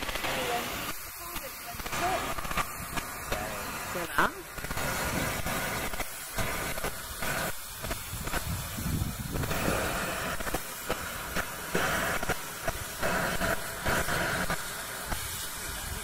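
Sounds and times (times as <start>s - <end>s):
steam hissing: 0.0s - 16.0s
steam locomotive exhaust beats: 0.0s - 16.0s.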